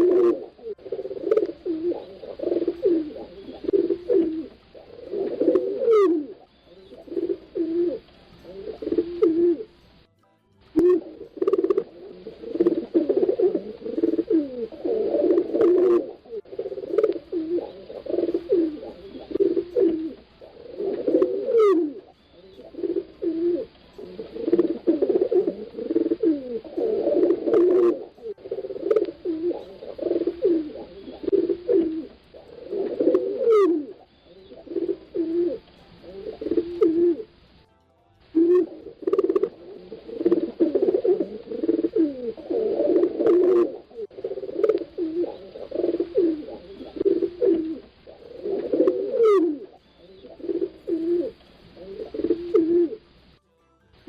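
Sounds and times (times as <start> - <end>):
pigeons cooing: 0.0 - 10.0, 10.8 - 37.6, 38.3 - 53.3.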